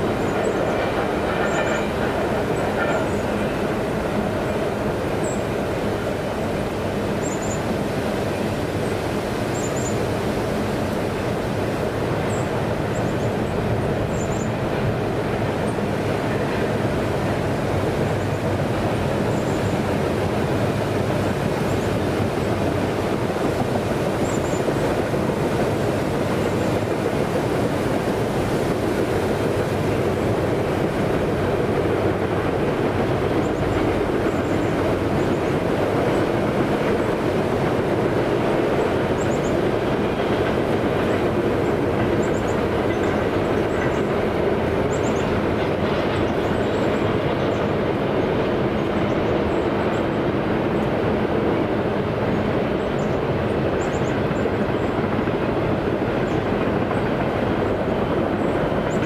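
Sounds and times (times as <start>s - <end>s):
train cars rumbling on track: 0.0s - 59.0s.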